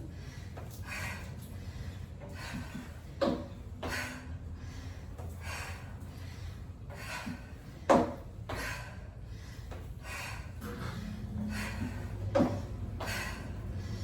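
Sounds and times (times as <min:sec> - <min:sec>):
person breathing hard: 0:00.0 - 0:14.0.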